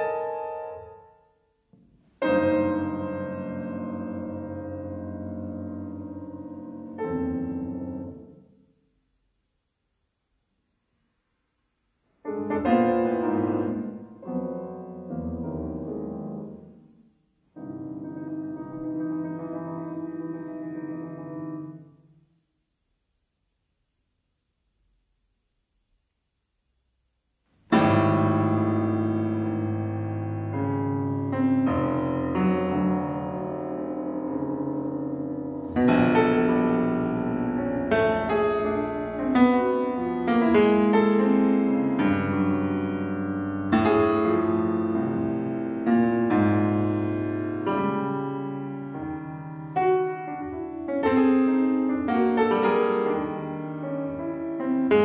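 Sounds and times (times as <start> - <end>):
low piano chords: 0.0 - 8.7, 12.2 - 22.1, 27.7 - 55.0.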